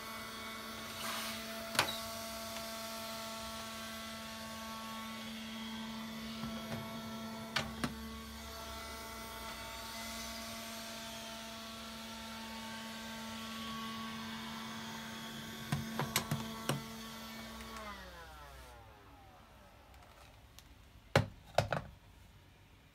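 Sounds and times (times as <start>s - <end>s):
window vacuum motor whine: 0.0s - 9.9s, 11.0s - 19.9s.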